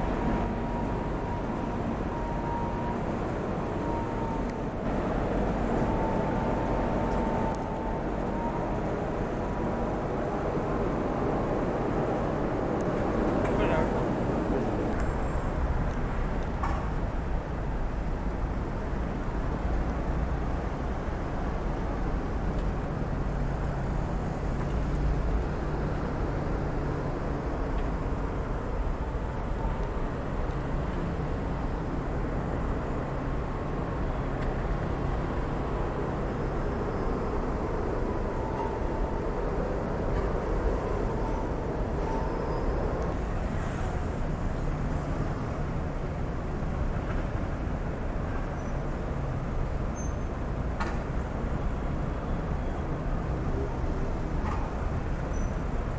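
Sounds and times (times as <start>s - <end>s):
street traffic rumble: 0.0s - 55.9s.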